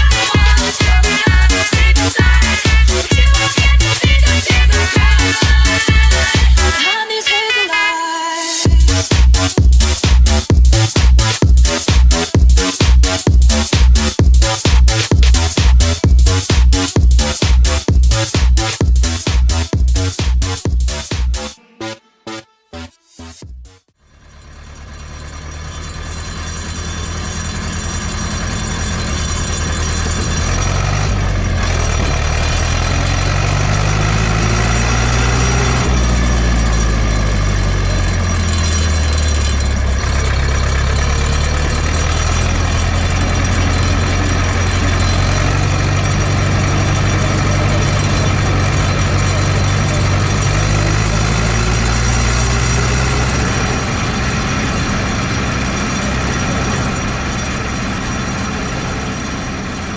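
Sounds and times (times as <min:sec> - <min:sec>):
tractor diesel engine running: 0:00.0 - 0:07.9, 0:08.5 - 0:59.9.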